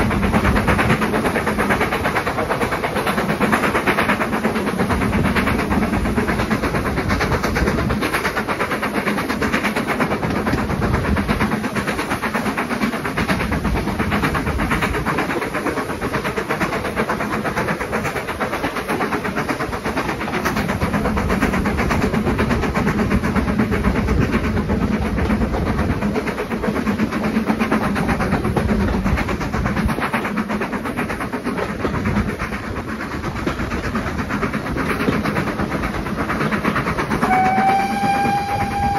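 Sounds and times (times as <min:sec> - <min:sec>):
steam locomotive exhaust beats: 0:00.0 - 0:38.9
train wheels running on track: 0:00.0 - 0:38.9.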